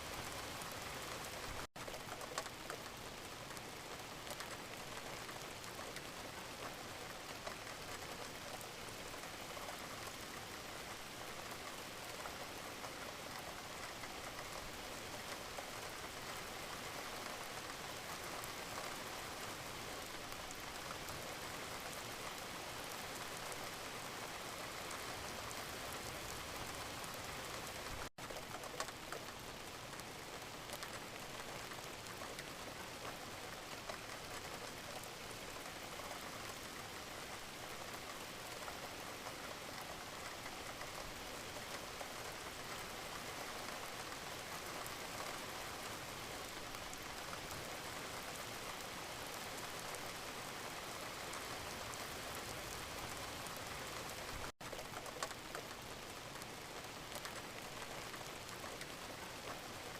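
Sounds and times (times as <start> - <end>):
gentle rain pattering: 0.0 - 59.9.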